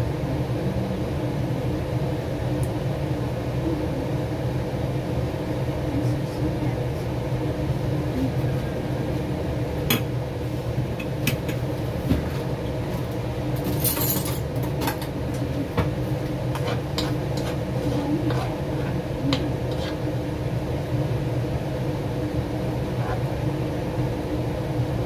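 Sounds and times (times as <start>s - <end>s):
kitchen appliances humming: 0.0s - 25.0s.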